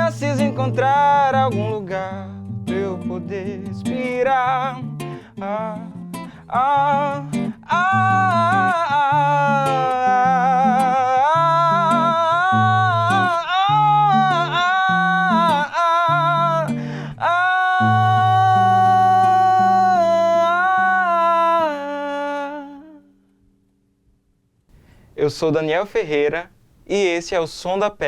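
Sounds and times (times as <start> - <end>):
person singing wordless notes: 0.0 - 23.2
acoustic guitar: 0.0 - 24.0, 24.7 - 25.3.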